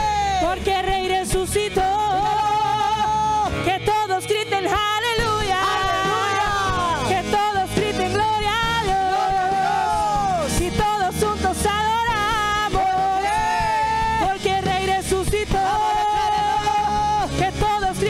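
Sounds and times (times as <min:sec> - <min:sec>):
band playing: 0:00.0 - 0:18.0
woman singing: 0:00.0 - 0:18.0.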